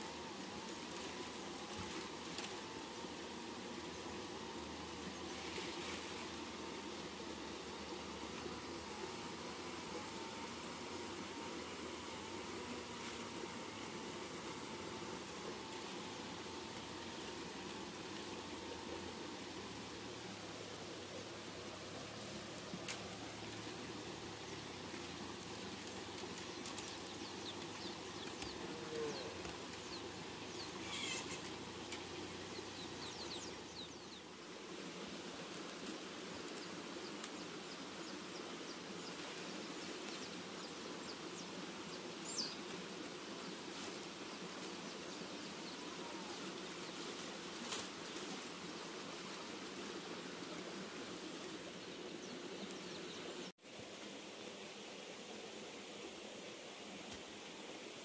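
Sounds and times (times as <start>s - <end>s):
outdoor background hiss: 0.0s - 58.0s.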